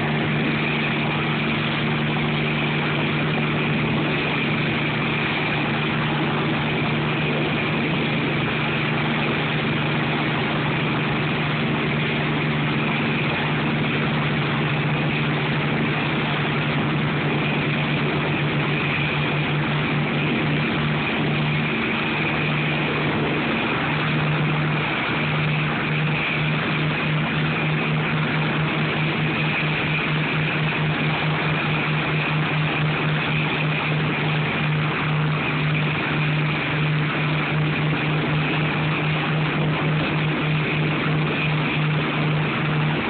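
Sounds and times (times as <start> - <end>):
helicopter engine and rotor: 0.0 - 43.0.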